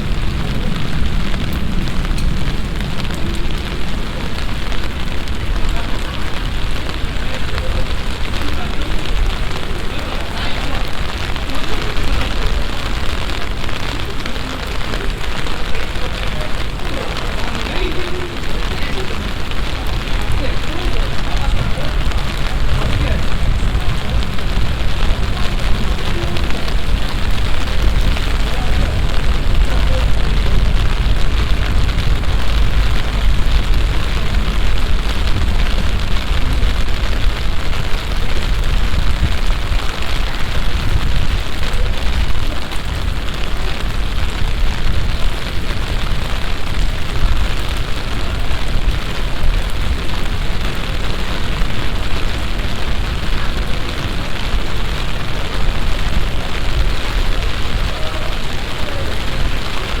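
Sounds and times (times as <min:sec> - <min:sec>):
deep rumble: 0:00.0 - 1:00.0
heavy rain falling: 0:00.0 - 1:00.0.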